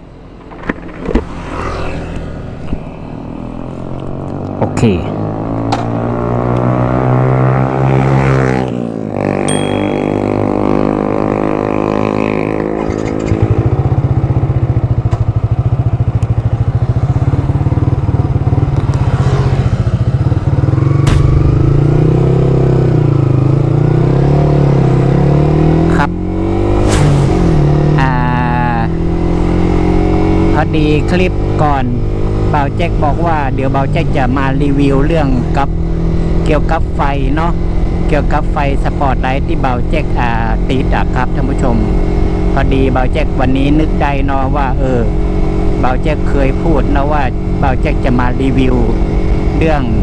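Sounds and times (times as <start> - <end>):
motorcycle engine revving and idling: 0.3 - 50.0.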